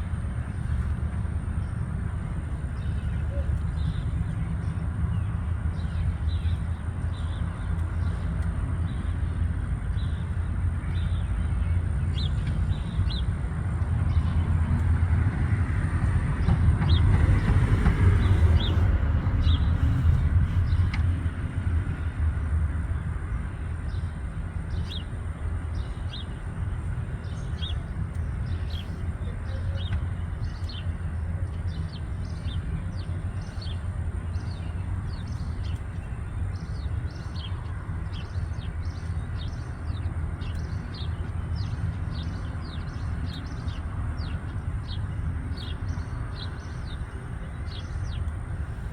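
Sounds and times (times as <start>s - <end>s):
passing vehicle noise: 0.0s - 48.9s.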